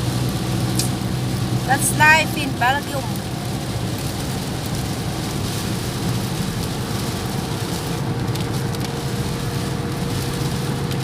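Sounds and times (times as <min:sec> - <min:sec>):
car engine: 0:00.0 - 0:11.0
rain on car: 0:00.0 - 0:11.0
tyres on wet road: 0:00.0 - 0:11.0.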